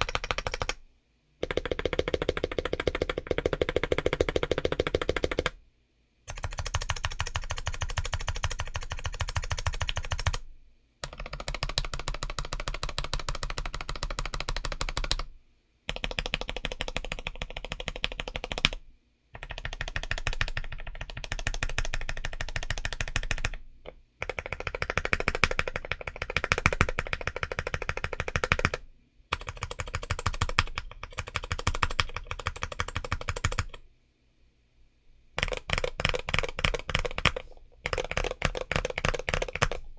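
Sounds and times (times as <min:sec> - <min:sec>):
fast typing on mechanical keyboard: 0:00.0 - 0:00.8, 0:01.4 - 0:05.6, 0:06.3 - 0:10.4, 0:11.0 - 0:15.3, 0:15.9 - 0:18.8, 0:19.4 - 0:33.8, 0:35.4 - 0:39.9.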